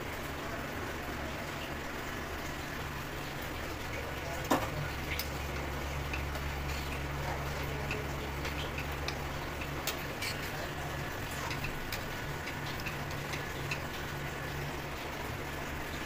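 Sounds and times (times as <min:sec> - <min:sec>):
curry simmering hiss: 0:00.0 - 0:16.0
gas stove hum: 0:00.0 - 0:16.0.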